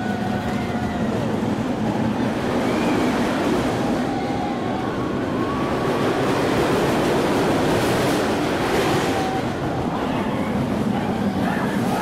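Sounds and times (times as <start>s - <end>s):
roller coaster rushing rumble: 0.0s - 12.0s.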